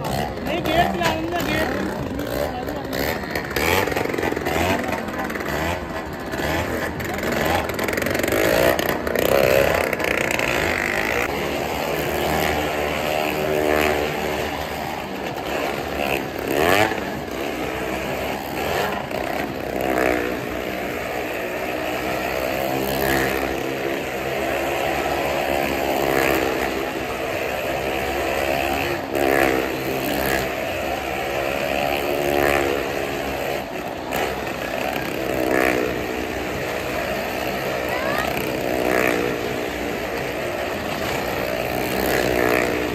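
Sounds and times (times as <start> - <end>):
engines running hard: 0.0 - 42.9.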